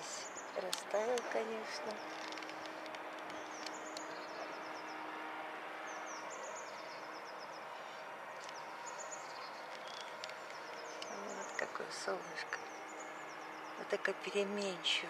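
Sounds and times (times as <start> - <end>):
city background noise: 0.0 - 15.0
small birds chirping: 0.0 - 15.0.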